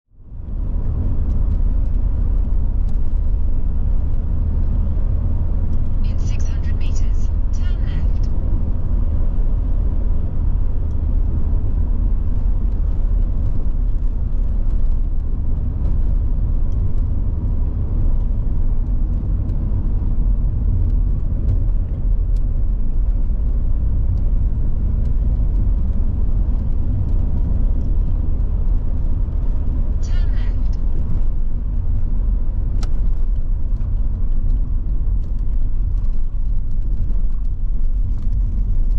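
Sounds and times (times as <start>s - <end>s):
car engine and road noise: 0.1s - 38.9s.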